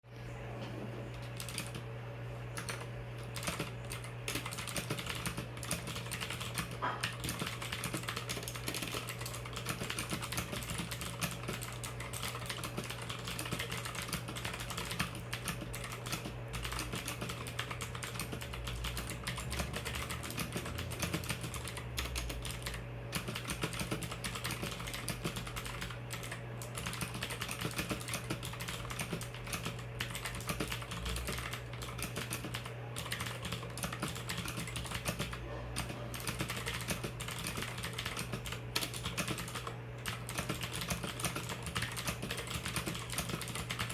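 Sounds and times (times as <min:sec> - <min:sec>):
steady low hum: 0:00.1 - 0:43.9.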